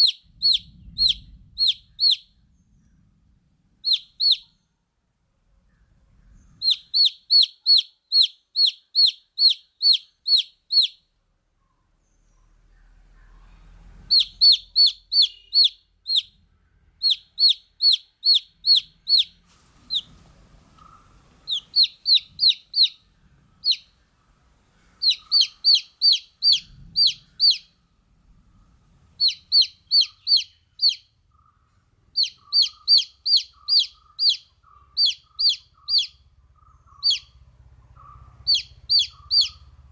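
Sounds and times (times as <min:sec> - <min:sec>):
baby chicks peeping: 0:00.0 - 0:02.5, 0:03.8 - 0:04.5, 0:06.4 - 0:11.1, 0:12.5 - 0:16.4, 0:17.0 - 0:24.1, 0:24.8 - 0:27.8, 0:29.1 - 0:39.9.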